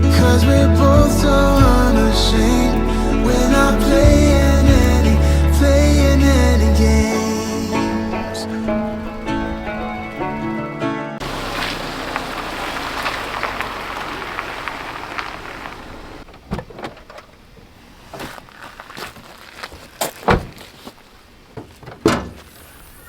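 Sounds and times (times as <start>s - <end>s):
dense rustling: 1.1s - 23.0s.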